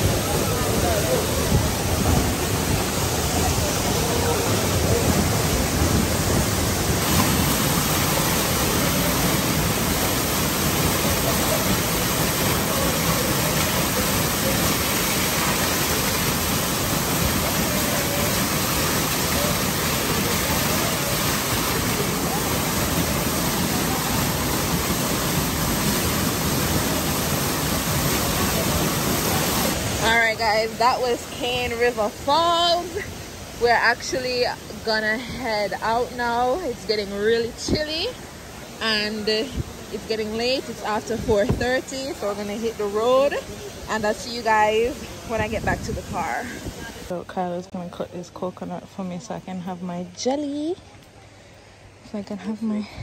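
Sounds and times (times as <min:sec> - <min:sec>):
waterfall pouring into pool: 0:00.0 - 0:45.4.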